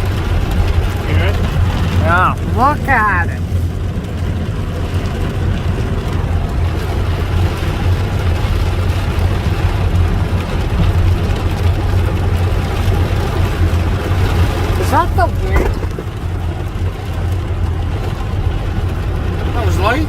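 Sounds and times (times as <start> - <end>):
heavy rain on a car: 0.0 - 20.0.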